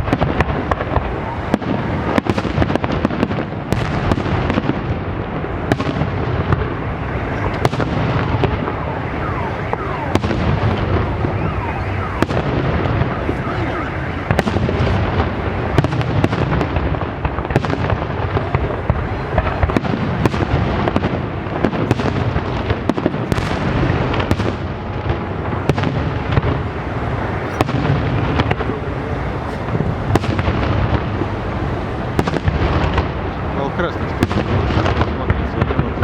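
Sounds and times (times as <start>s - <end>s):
dull booms echoing: 0.0s - 36.0s
fireworks bursts and crackling: 0.0s - 36.0s
sharp bangs: 0.0s - 36.0s.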